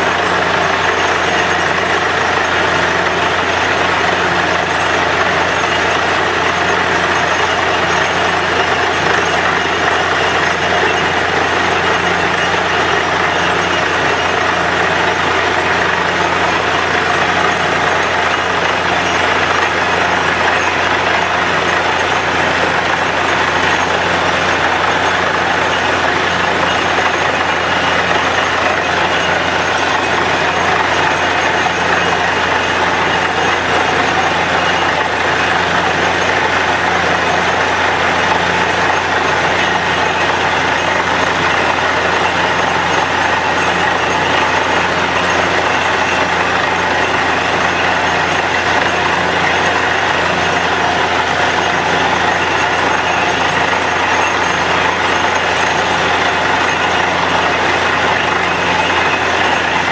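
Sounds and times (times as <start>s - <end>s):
drilling rig engine running: 0.0s - 59.9s.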